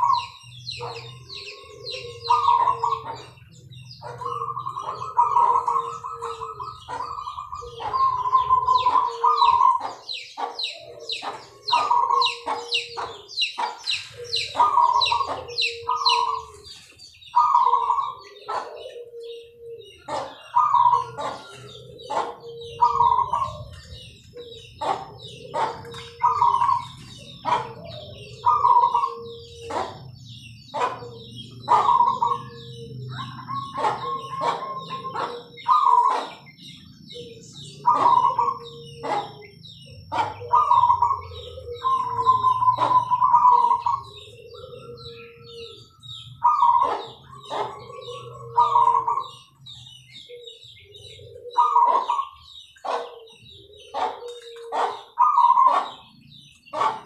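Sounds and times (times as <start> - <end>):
doves cooing: 0.0 - 57.0
small birds chirping: 0.0 - 57.0.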